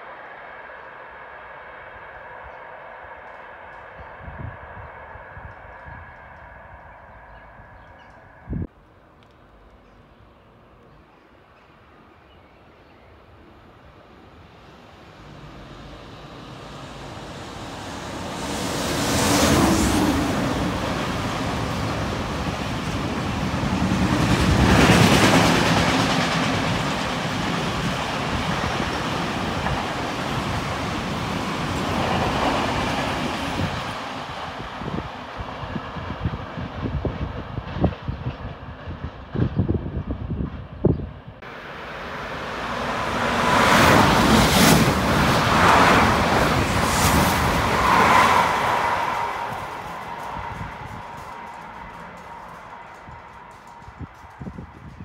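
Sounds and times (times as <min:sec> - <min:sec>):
train passing roar: 0:00.0 - 0:08.7, 0:13.2 - 0:55.0.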